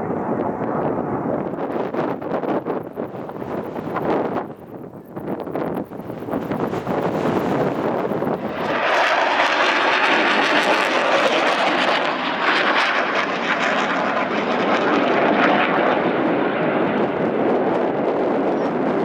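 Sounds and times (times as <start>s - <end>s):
fighter jet engine roar: 0.0s - 19.0s.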